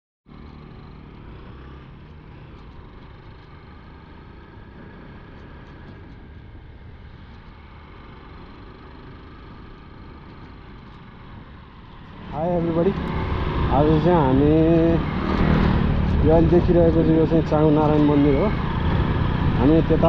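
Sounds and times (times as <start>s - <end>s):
motorcycle engine rumbling: 0.3s - 20.0s.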